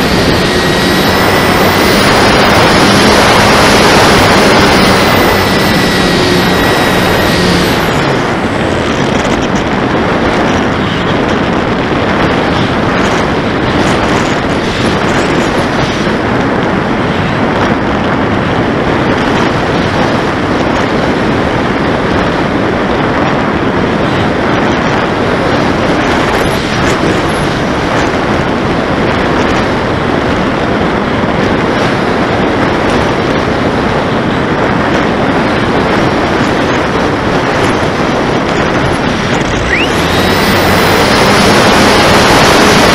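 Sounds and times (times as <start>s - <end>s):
propeller whirring: 0.0s - 42.9s
wind rushing: 0.0s - 42.9s.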